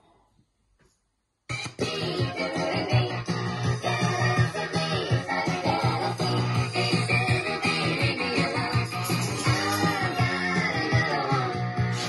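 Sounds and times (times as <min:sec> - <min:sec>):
vinyl record music: 0:01.5 - 0:12.0.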